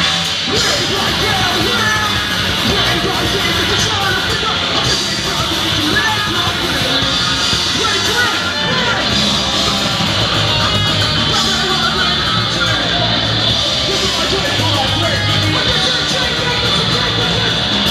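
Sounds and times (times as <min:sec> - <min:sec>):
punk rock band playing: 0:00.0 - 0:17.9.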